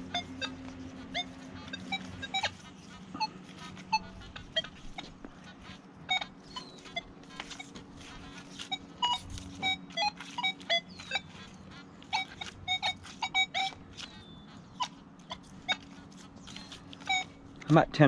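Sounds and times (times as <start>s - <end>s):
metal detector beeps: 0.0s - 17.8s.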